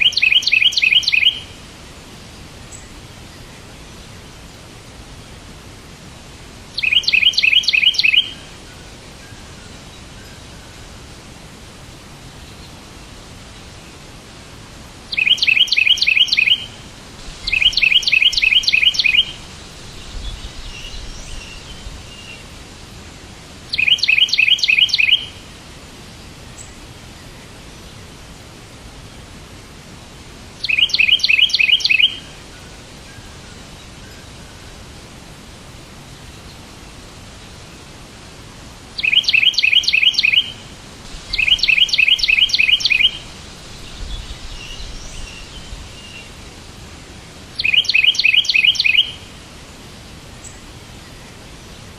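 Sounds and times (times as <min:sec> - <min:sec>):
steady background noise: 0:00.0 - 0:51.9.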